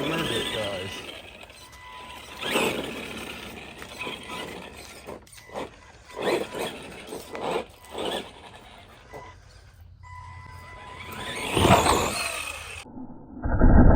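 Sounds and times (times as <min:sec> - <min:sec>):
rc truck motor whirring: 0:00.0 - 0:12.9.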